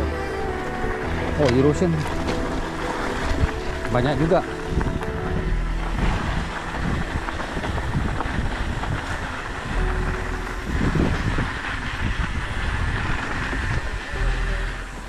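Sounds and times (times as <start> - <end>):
tyres crunching on dirt: 0.0 - 12.2
bike rattling: 0.0 - 15.0
wind rushing over microphone: 0.0 - 15.0.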